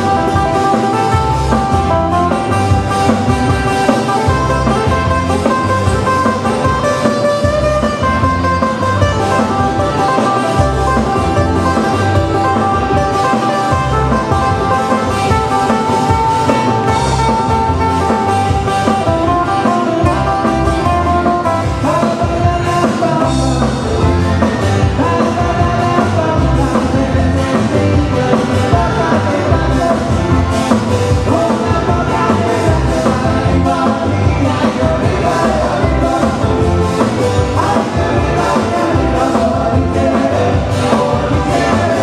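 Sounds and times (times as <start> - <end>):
drums: 0.0 - 42.0
guitar: 0.0 - 42.0
person singing: 0.0 - 42.0.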